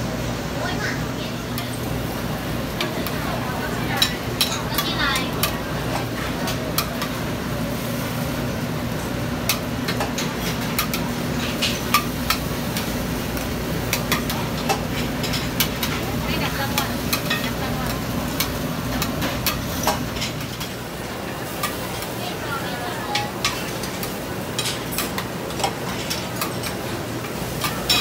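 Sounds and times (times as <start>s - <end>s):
omelettes sizzling on griddle: 0.0s - 28.0s.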